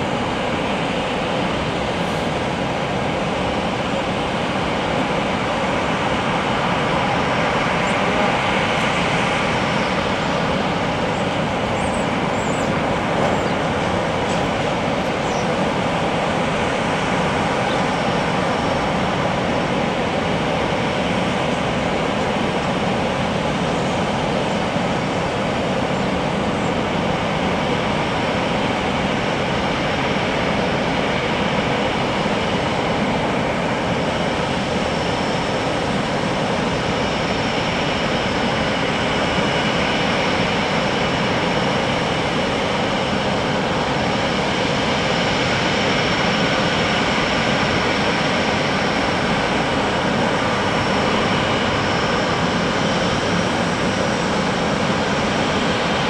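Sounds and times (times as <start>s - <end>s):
jet engine rush: 0.0s - 56.0s.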